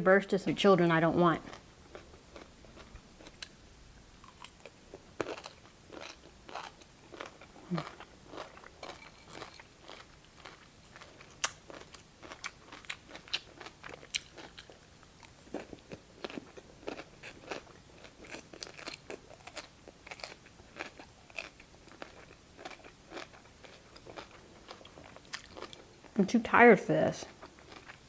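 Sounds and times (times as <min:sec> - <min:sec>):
person chewing crisp cucumber: 0:01.4 - 0:03.6, 0:04.2 - 0:26.2, 0:27.3 - 0:28.0.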